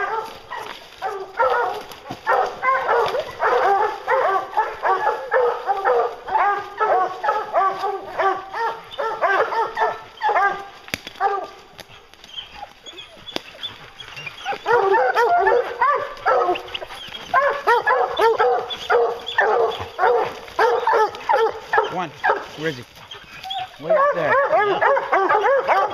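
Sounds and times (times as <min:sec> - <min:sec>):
hounds baying and barking: 0:00.0 - 0:25.9.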